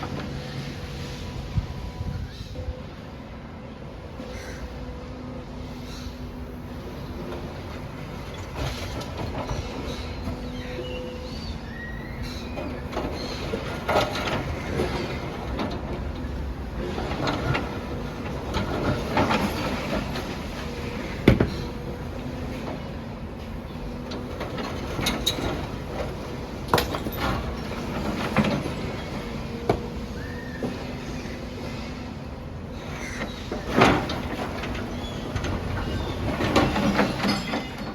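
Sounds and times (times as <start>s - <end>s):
excavator engine hum: 0.0s - 37.9s.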